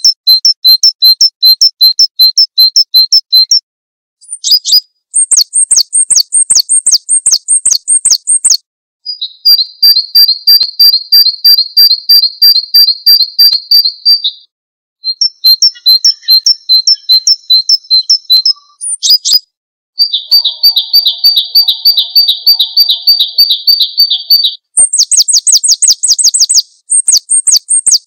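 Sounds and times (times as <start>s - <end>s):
songbirds chirping rapidly: 4.2s - 28.0s.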